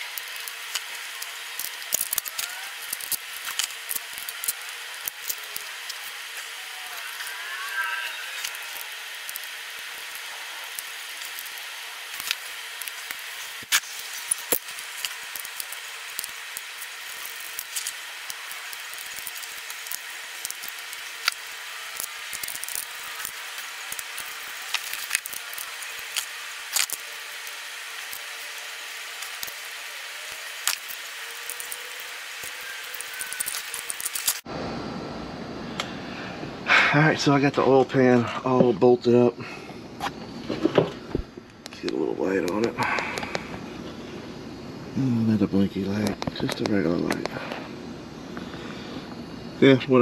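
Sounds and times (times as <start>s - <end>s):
faint hum: 0.0s - 50.0s
steady background hiss: 0.0s - 50.0s.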